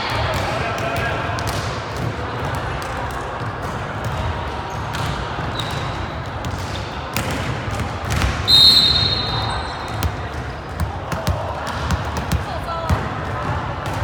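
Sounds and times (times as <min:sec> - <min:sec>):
hubbub of voices: 0:00.0 - 0:14.0.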